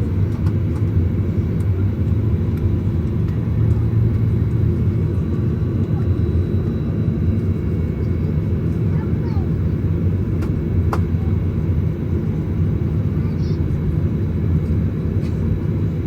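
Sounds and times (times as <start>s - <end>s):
jet engines idling in cabin: 0.0s - 16.0s.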